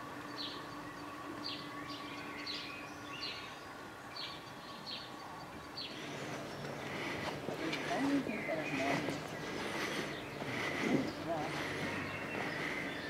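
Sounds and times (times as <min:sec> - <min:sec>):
low steady hum: 0:00.0 - 0:13.0
outdoor background noise: 0:00.0 - 0:13.0
songbird chirping: 0:00.0 - 0:13.0.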